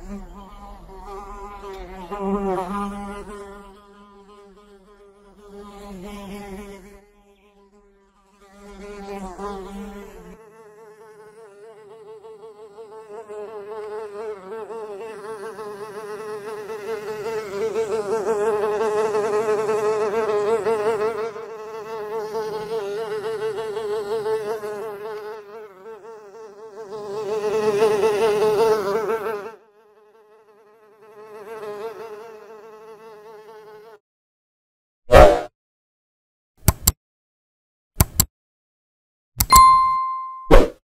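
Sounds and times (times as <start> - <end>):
fly buzzing: 0.0 - 34.0.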